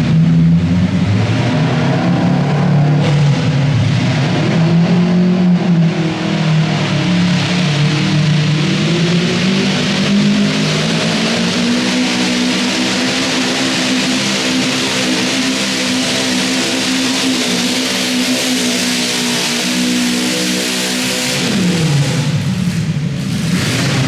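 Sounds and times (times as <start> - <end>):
tractor engine high-revving drone: 0.0 - 24.0.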